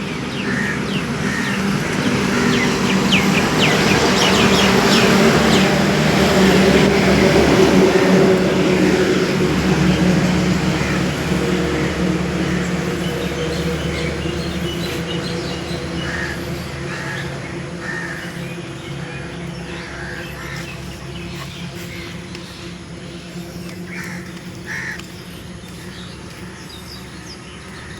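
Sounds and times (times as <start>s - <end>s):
birds calling: 0.0s - 27.9s
low mechanical drone: 0.0s - 27.9s.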